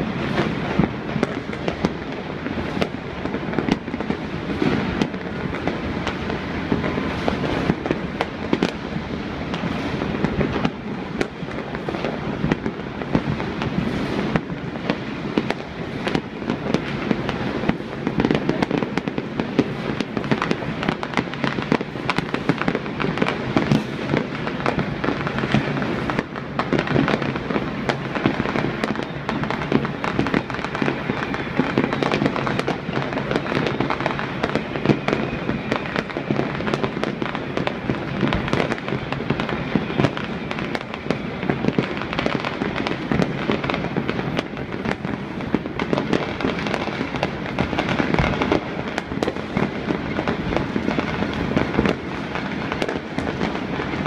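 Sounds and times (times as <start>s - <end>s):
fireworks bangs and pops: 0.0s - 54.0s.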